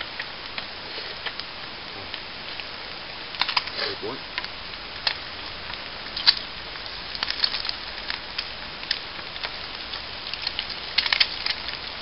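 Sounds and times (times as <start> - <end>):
eggs frying hiss: 0.0 - 12.0
twig fire crackling: 0.0 - 12.0.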